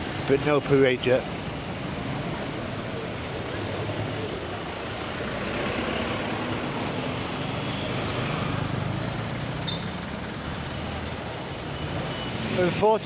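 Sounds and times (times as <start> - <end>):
street traffic passing: 0.0 - 13.0.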